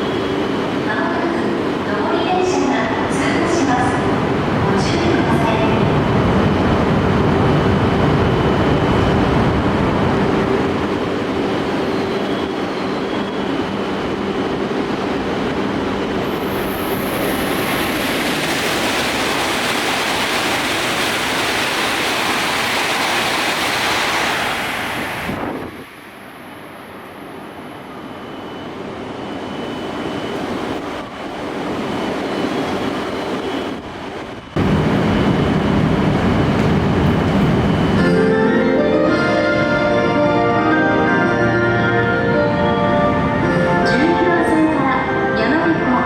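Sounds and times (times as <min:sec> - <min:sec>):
high-speed train rushing past: 0:00.0 - 0:46.0.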